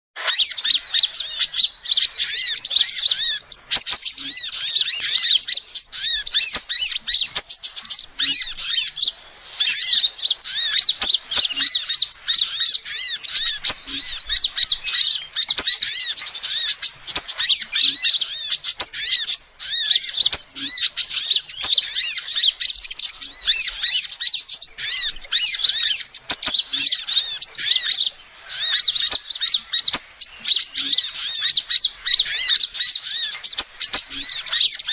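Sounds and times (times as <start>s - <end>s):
sunbird chirping: 0.2s - 34.9s.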